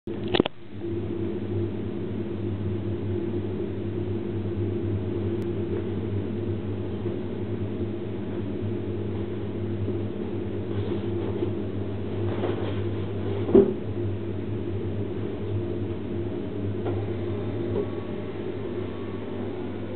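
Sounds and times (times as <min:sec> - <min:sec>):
electric motor hum: 0:00.1 - 0:19.9.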